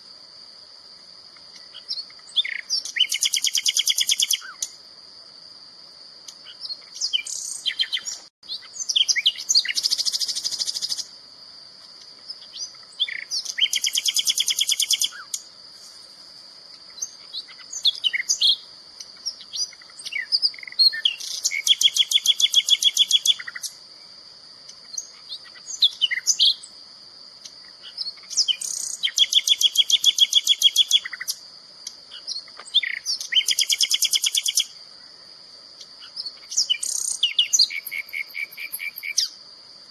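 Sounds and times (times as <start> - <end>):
songbird singing: 0.0 - 5.3, 5.9 - 39.9.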